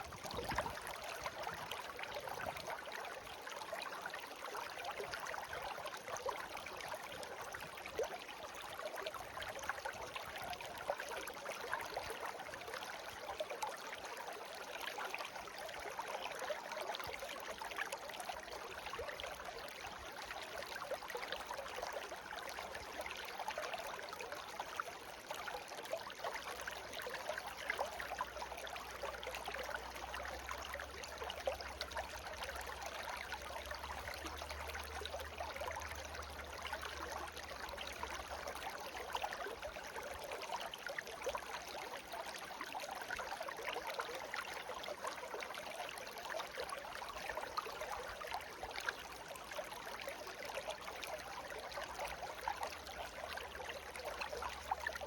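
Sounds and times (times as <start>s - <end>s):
stream water babbling: 0.0s - 55.0s.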